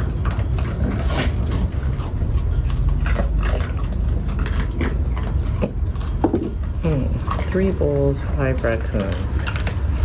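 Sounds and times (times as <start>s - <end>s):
raccoons crunching kibble: 0.0s - 10.0s.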